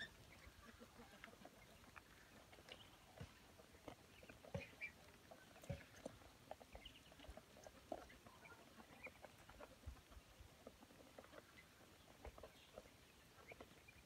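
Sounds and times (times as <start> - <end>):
ducklings pecking at food: 0.0 - 14.0
ducklings peeping: 0.0 - 14.0.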